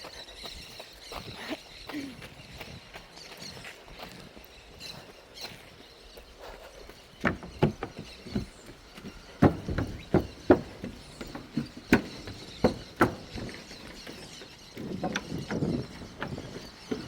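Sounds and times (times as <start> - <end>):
faint birdsong: 0.0 - 17.0
running footsteps: 0.0 - 17.0.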